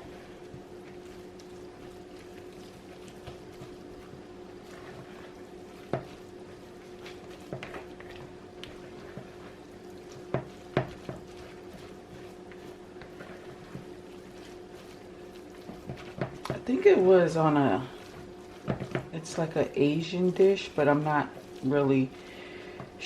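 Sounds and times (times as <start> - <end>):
spoon stirring thick mixture: 0.0 - 23.0.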